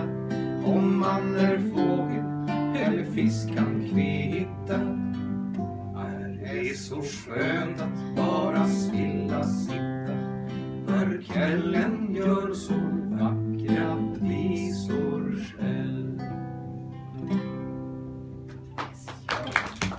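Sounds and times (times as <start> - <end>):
acoustic guitars strumming: 0.0 - 19.0.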